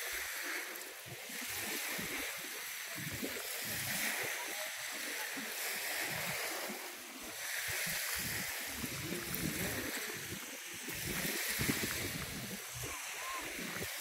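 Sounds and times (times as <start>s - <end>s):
waves washing onto beach: 0.0s - 14.0s.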